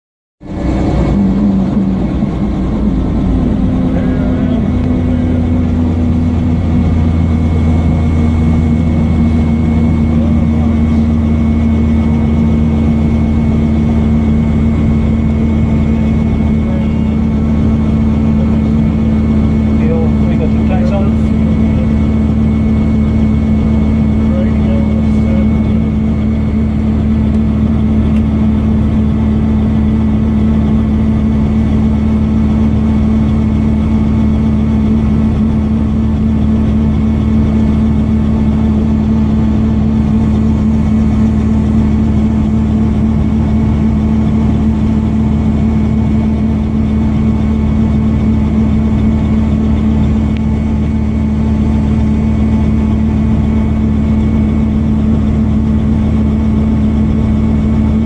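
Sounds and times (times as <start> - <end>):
helicopter engine and rotors: 0.4 - 58.0.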